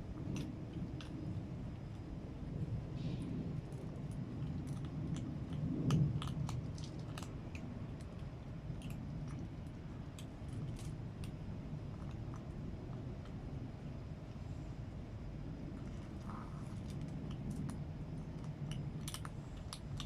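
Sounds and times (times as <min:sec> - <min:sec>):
cat chewing food: 0:00.0 - 0:20.0
low steady rumble: 0:00.0 - 0:20.0.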